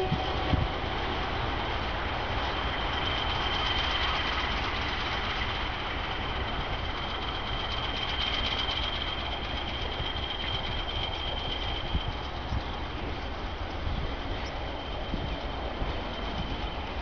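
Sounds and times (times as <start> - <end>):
diesel locomotive engine rumble: 0.0 - 17.0
high-pitched whine: 0.0 - 17.0.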